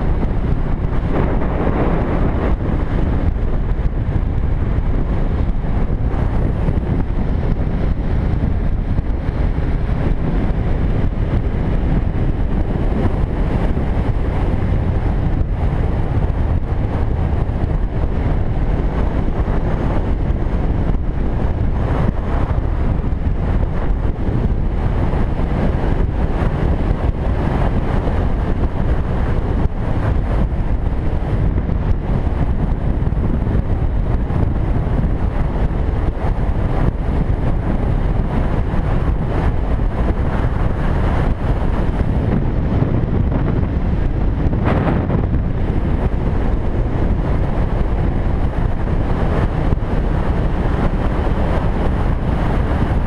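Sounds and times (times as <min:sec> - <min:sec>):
motorcycle engine: 0:00.0 - 0:53.0
road noise: 0:00.0 - 0:53.0
wind buffeting microphone: 0:00.0 - 0:53.0.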